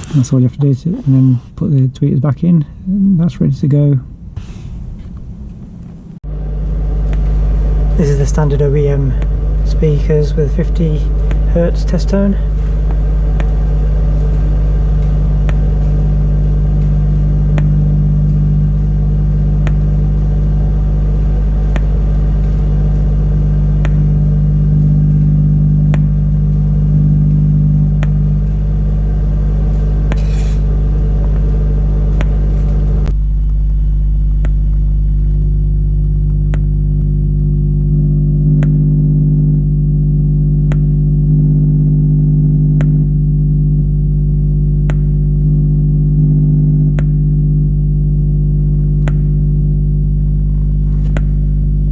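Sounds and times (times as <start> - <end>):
speaker test tone low hum: 0.0 - 51.9
buzzy overtone: 2.8 - 51.9.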